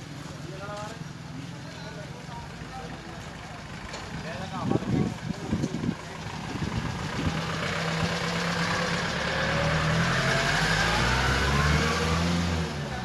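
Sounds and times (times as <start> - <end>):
vehicle engine running with whine: 2.4 - 13.0.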